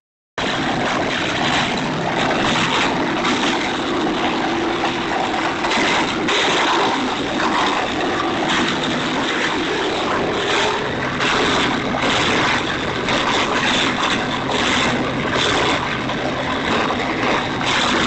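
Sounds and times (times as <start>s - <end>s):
wood chipper running: 0.5s - 18.0s.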